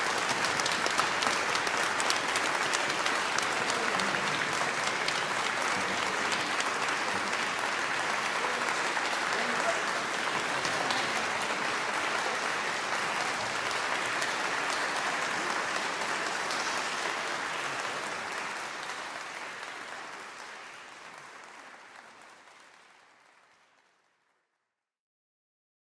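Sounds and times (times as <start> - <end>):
audience applauding: 0.0 - 24.5.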